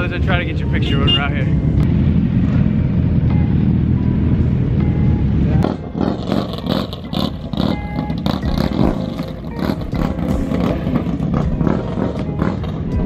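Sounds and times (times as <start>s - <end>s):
motorcycle rumble: 0.0s - 13.0s
motorcycles rolling past: 1.5s - 13.0s.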